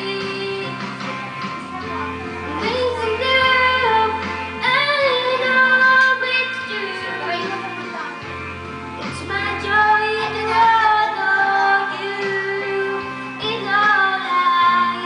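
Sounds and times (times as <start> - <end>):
boy singing into microphone: 0.0 - 8.2, 9.0 - 15.0
instrumental backing track: 0.0 - 15.0.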